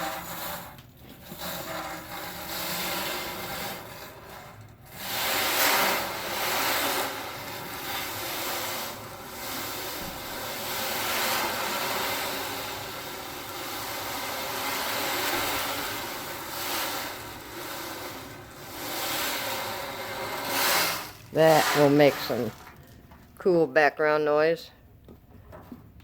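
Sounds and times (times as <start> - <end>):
ocean drum beads rolling: 0.0 - 23.6.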